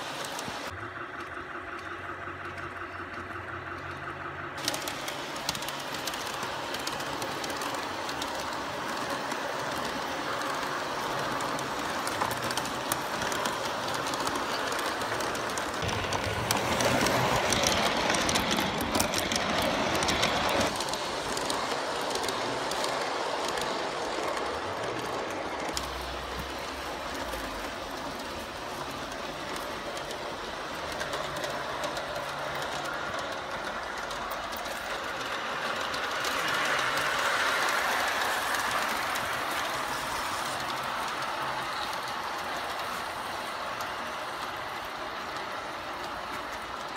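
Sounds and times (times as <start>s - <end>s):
model train rolling: 0.0s - 46.9s
wheels clicking over rail joints: 0.0s - 46.9s.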